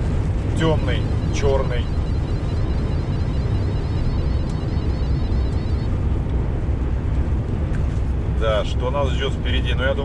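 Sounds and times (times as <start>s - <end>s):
truck engine drone and road noise: 0.0s - 10.0s.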